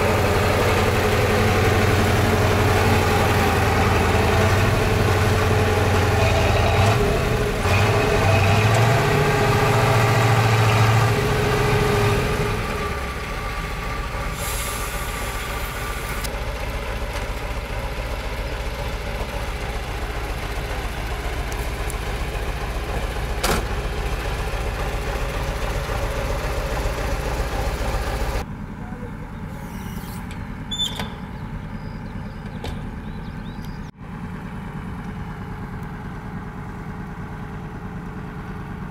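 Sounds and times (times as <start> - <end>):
heavy diesel engine: 0.0 - 38.9.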